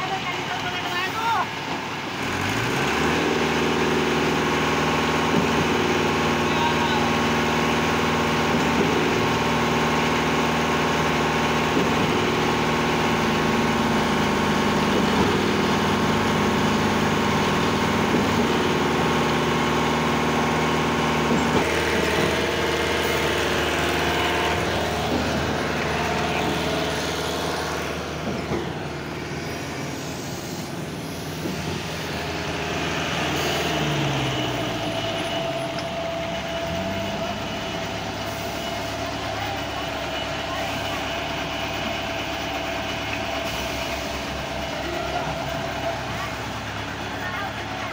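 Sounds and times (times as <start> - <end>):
concrete pump machine hum: 0.0 - 47.9
pump pistons knocking: 1.5 - 47.9.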